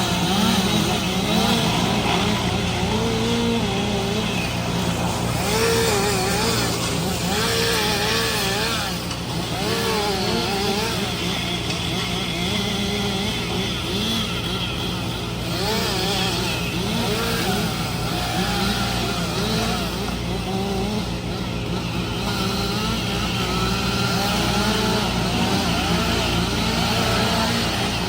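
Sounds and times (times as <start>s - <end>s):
engine running with wavering pitch: 0.0s - 28.0s.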